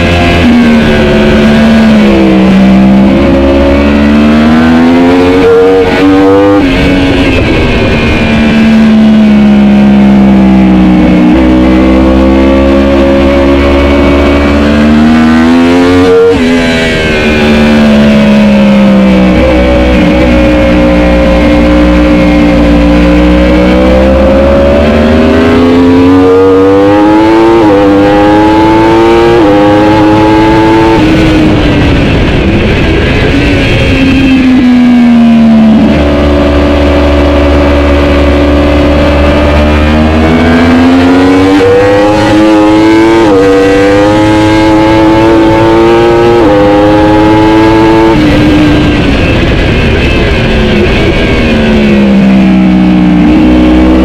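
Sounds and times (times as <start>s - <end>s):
engine downshifting: 0.0s - 54.0s
motorbike engine revving through gears: 0.0s - 54.0s.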